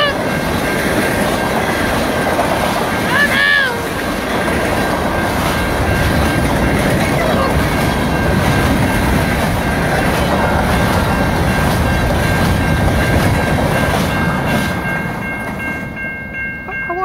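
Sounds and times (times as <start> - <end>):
train wheels rumbling and clacking: 0.0 - 16.4
crossing bell ringing: 0.0 - 17.0.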